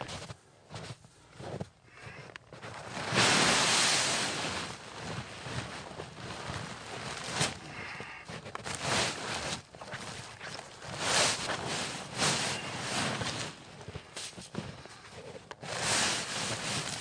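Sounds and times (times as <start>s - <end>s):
canvas tent fabric flapping: 2.6s - 17.0s.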